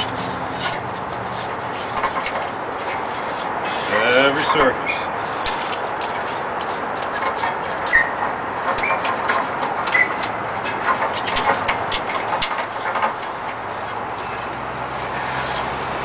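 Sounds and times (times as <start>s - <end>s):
sandpaper rubbing on steel: 0.0s - 15.7s.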